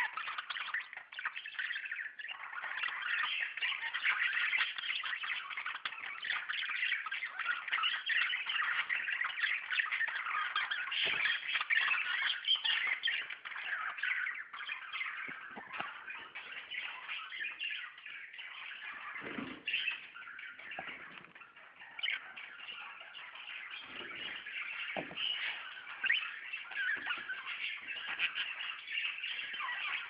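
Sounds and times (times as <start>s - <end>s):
budgerigars chattering: 0.0s - 30.0s.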